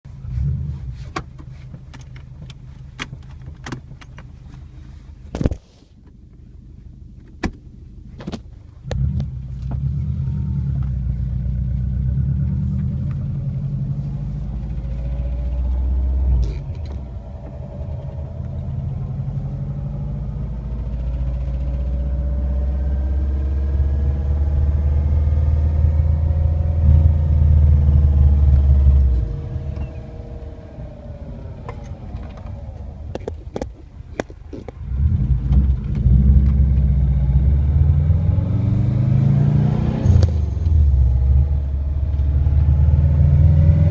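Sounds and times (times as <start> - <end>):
car low rumble with rising tones: 0.1 - 43.9.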